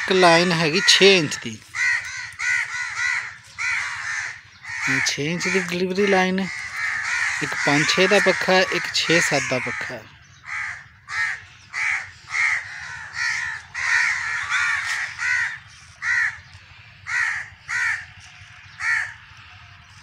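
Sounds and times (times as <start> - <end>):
bird calling: 0.0 - 20.0.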